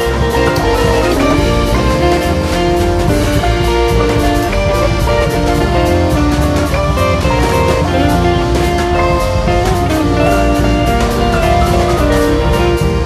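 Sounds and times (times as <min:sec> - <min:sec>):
drum beat: 0:00.0 - 0:13.0
melody of held notes: 0:00.0 - 0:13.0.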